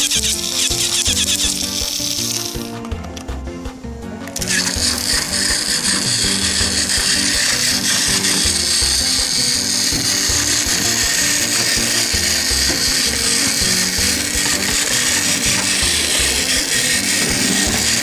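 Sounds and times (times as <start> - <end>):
toy train motor whirring: 0.0 - 2.8, 4.4 - 18.0
background music with steady beat: 0.0 - 18.0.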